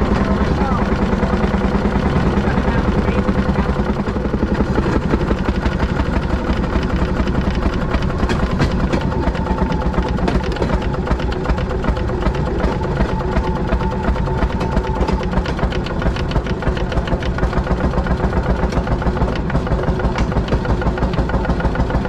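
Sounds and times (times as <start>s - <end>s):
small engine clattering: 0.0s - 22.0s.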